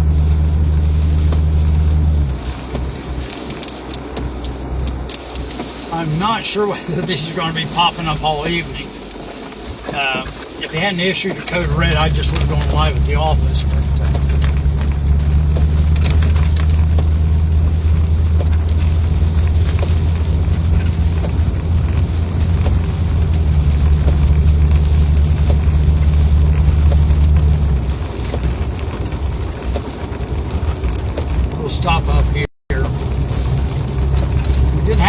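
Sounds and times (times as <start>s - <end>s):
car engine and road drone: 0.0s - 35.0s
raindrops ticking on car roof: 0.0s - 35.0s.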